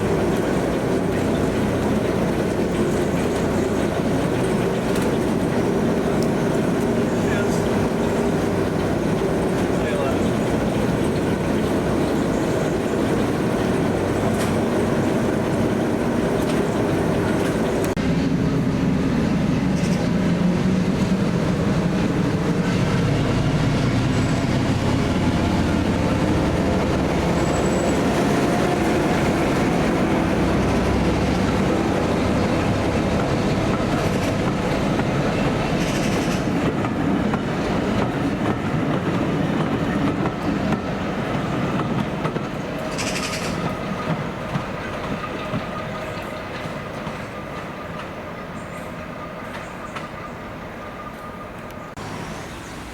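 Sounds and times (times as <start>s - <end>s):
wheels clicking over rail joints: 0.0s - 18.1s, 19.7s - 52.9s
locomotive engine droning: 0.0s - 52.9s.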